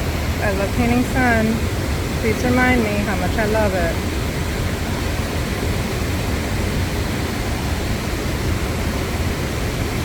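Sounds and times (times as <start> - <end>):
river and waterfall rushing: 0.0 - 10.0.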